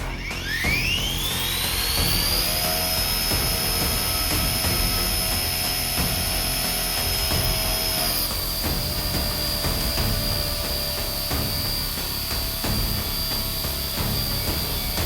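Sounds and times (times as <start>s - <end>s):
small electric motors whining: 0.0s - 15.0s
rotor-wash rumble: 1.4s - 15.0s.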